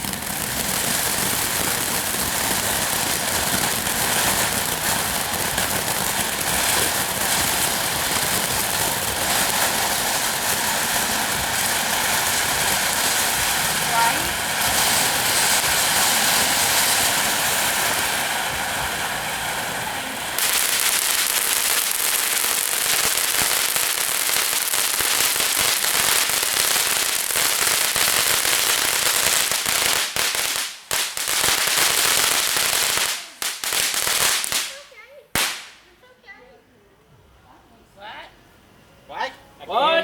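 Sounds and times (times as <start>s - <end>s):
firework crackling: 0.0s - 36.6s.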